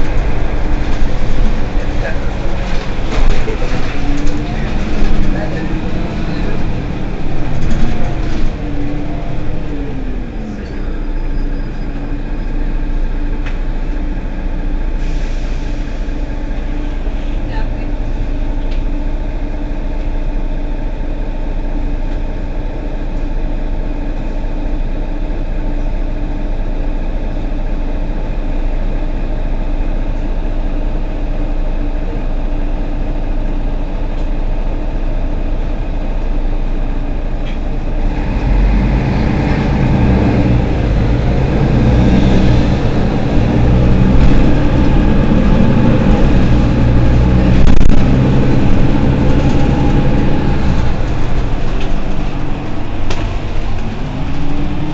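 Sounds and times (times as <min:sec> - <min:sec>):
bus engine idling and revving: 0:00.0 - 0:54.9.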